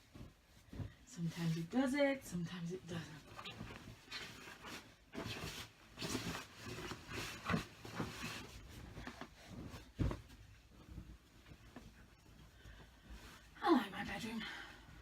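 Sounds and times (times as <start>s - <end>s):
bedding fabric rustling: 0.0s - 15.0s.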